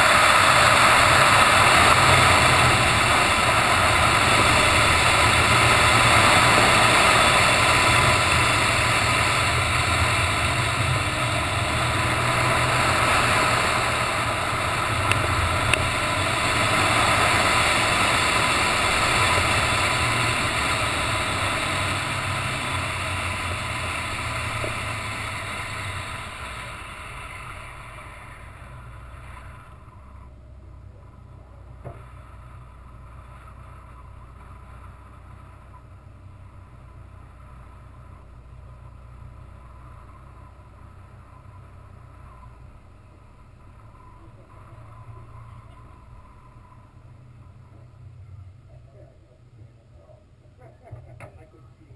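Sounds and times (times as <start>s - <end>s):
car engine running: 0.0s - 51.9s
wind and road noise: 0.0s - 51.9s.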